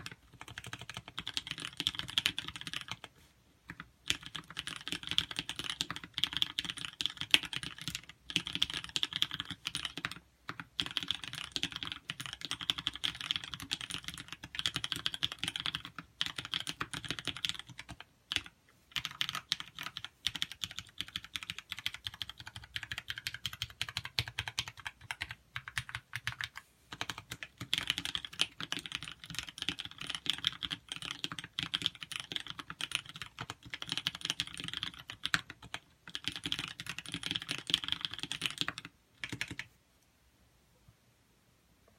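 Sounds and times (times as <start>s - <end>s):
fast mechanical keyboard typing: 0.0s - 3.1s, 3.7s - 39.7s.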